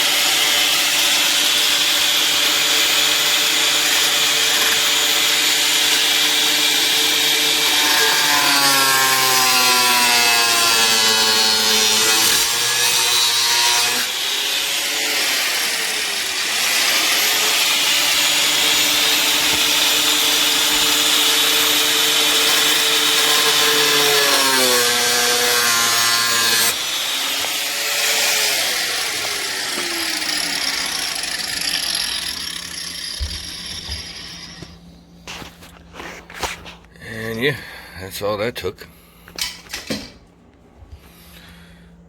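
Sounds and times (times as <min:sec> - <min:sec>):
power saw cutting metal: 0:00.0 - 0:34.8.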